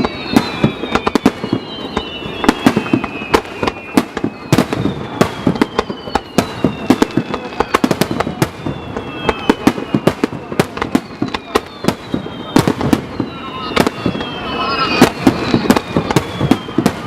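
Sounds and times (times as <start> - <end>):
fireworks bangs: 0.0 - 17.0
fireworks whistling: 0.0 - 17.0.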